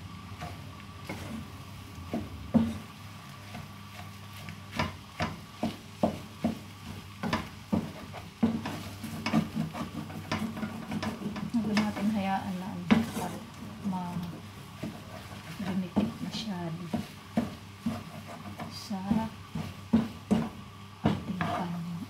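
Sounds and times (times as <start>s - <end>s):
wooden spoon scraping a pan: 0.3s - 22.0s.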